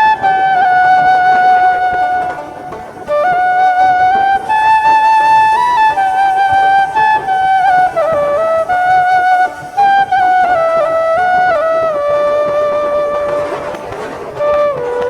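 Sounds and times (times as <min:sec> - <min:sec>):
flute-like slow melody: 0:00.0 - 0:15.0.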